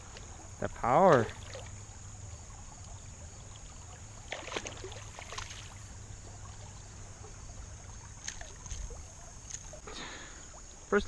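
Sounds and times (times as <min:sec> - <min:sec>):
river water splashing and lapping: 0:00.0 - 0:11.0.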